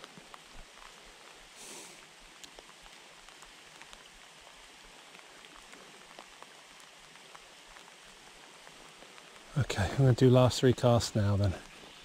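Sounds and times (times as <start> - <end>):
light rain hissing: 0.0 - 12.0
raindrops ticking: 0.0 - 12.0.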